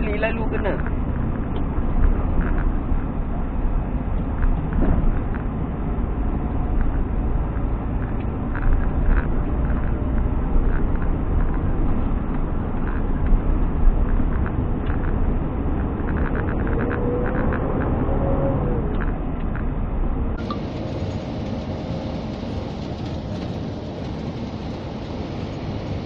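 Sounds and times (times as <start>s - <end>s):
lorry diesel engine rumble: 0.0s - 26.0s.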